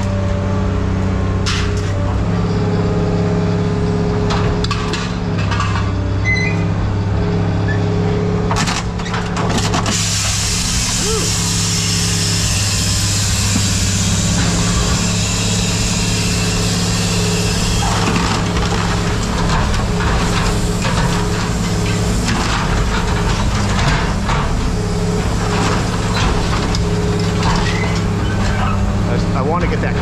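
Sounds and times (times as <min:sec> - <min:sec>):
heavy machine engine running: 0:00.0 - 0:30.0
scrap metal clanking and scraping: 0:01.4 - 0:02.0, 0:04.2 - 0:06.7, 0:08.5 - 0:30.0.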